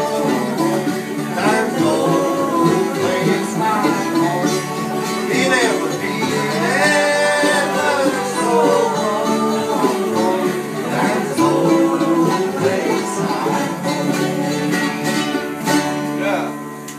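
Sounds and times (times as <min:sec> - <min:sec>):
person singing: 0:00.0 - 0:15.7
bowed fiddle: 0:00.0 - 0:16.5
strummed acoustic guitar: 0:00.0 - 0:16.9.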